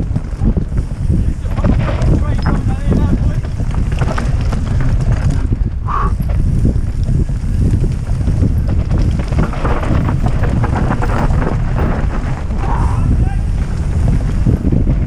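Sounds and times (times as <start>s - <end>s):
bike clicks and clatters: 0.0s - 15.0s
mountain bike rumble and rattle: 0.0s - 15.0s
wind buffeting microphone: 0.0s - 15.0s.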